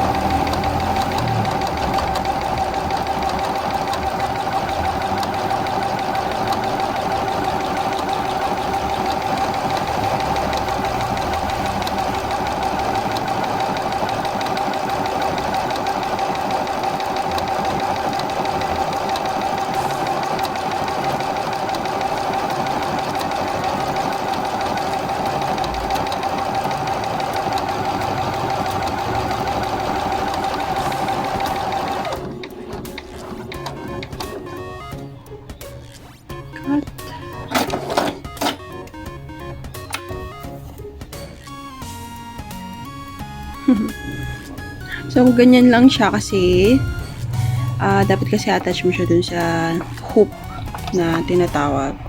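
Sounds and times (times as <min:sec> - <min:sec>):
sewing machine stitching: 0:00.0 - 0:38.8, 0:43.1 - 0:52.0.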